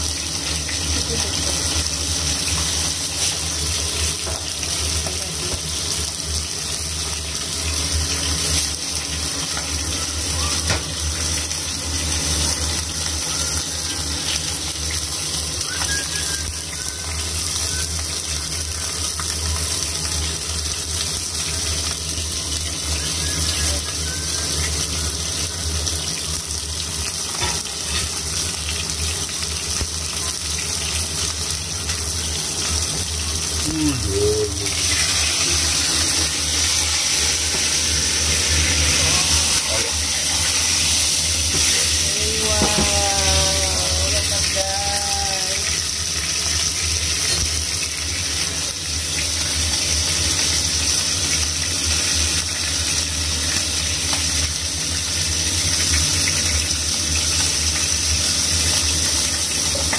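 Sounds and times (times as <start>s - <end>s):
steak sizzling in frying pan: 0.0s - 59.9s.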